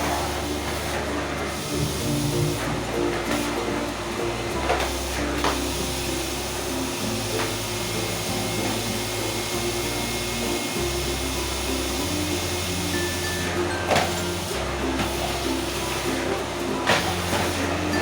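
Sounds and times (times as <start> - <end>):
background music with bass: 0.0 - 18.0
vacuum cleaner running: 0.0 - 18.0.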